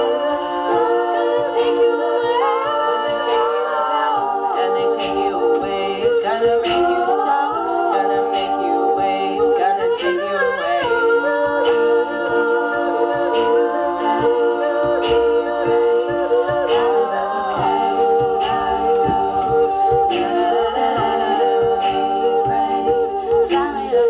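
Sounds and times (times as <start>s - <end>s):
vocal percussion beat: 0.0s - 24.0s
women singing a cappella: 0.0s - 24.0s.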